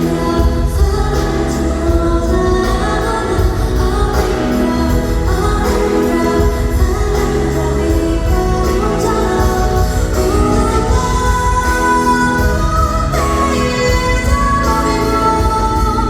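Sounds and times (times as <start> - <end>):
live instrumental accompaniment: 0.0 - 16.0
woman singing: 0.0 - 16.0.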